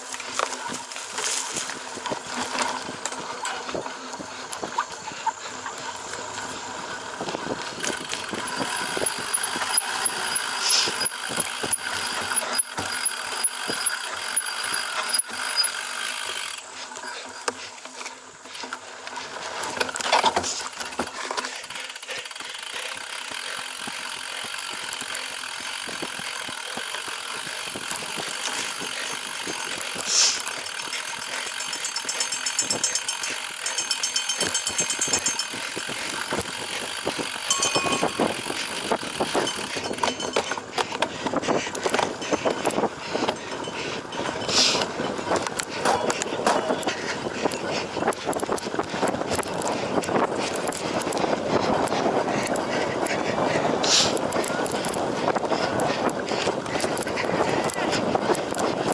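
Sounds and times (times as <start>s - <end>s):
bike chain and frame rattling: 0.0s - 58.9s
fast regular ticking: 5.7s - 17.6s, 20.6s - 58.9s.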